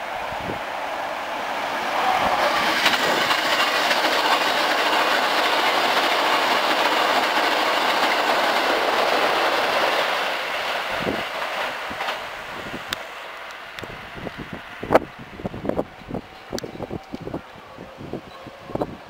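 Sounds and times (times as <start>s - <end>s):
express train passing at speed: 0.0s - 19.0s.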